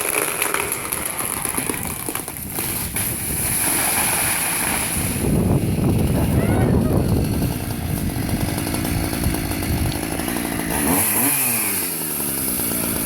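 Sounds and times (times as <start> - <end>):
branches cracking: 0.0 - 6.2, 7.0 - 13.0
chainsaw running: 0.0 - 13.0.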